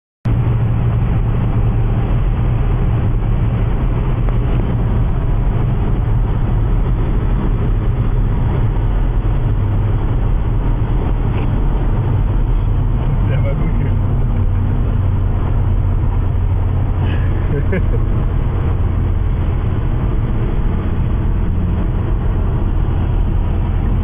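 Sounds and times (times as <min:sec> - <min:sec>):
car engine drone: 0:00.3 - 0:24.0
tyre road noise: 0:00.3 - 0:24.0.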